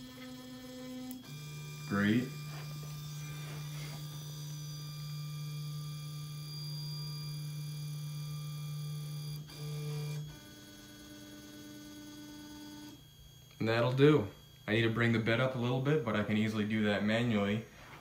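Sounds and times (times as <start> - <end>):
stepper motors humming: 0.0 - 17.6.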